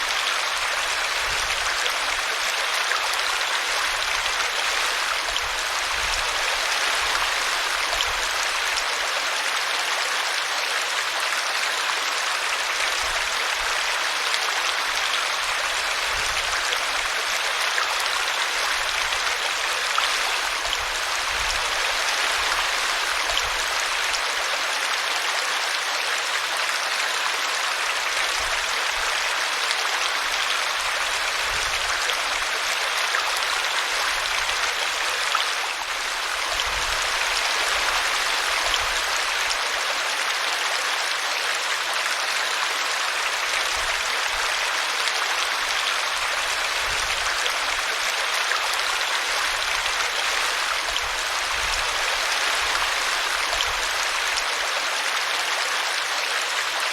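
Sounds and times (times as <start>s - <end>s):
brook water flowing: 0.0s - 56.9s.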